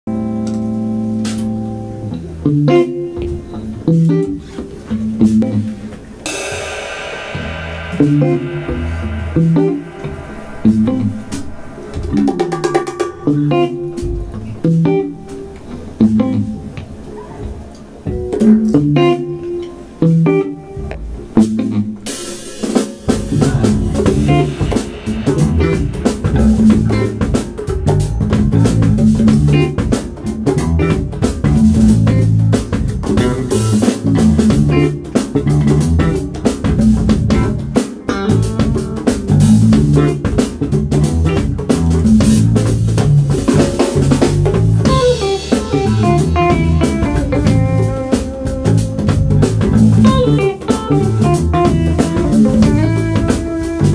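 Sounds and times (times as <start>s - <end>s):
electric bass: 0.0s - 16.7s, 23.1s - 53.9s
electric guitar: 0.0s - 53.9s
drum kit: 0.1s - 53.9s.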